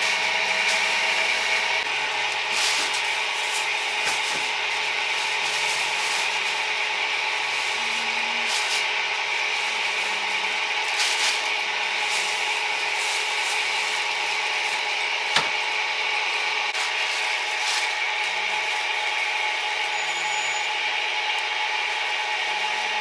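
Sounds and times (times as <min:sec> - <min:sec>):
grill hissing: 0:00.0 - 0:23.0.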